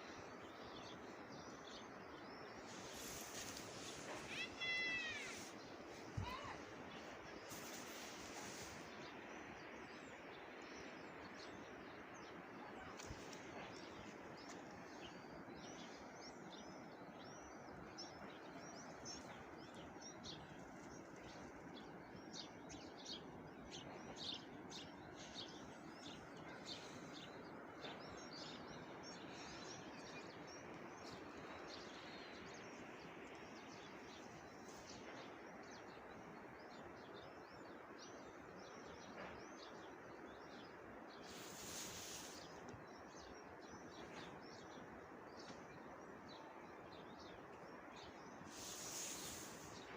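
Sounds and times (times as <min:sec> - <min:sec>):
faint outdoor hiss: 0:00.0 - 0:49.9
small birds chirping: 0:00.0 - 0:49.9.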